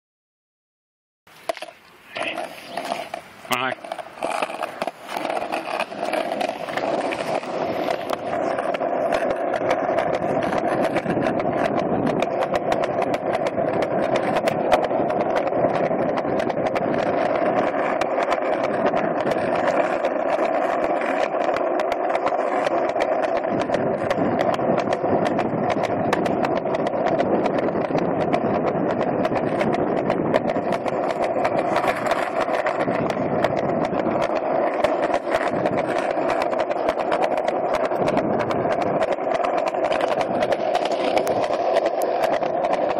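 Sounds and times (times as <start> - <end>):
skateboard clicking over slabs: 1.3 - 42.9
skateboard wheels rolling on concrete: 1.3 - 42.9.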